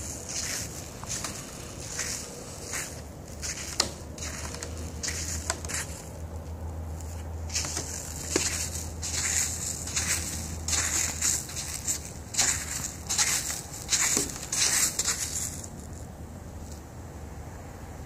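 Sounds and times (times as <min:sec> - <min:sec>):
footsteps on frosty wooden decking: 0:00.0 - 0:16.0.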